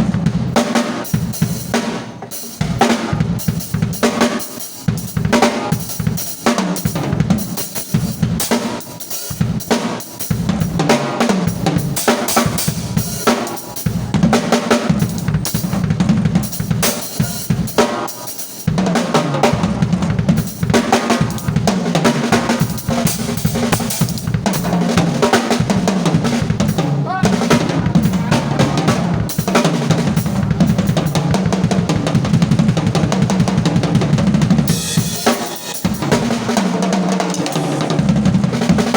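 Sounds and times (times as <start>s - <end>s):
snare drum: 2.6s - 38.9s.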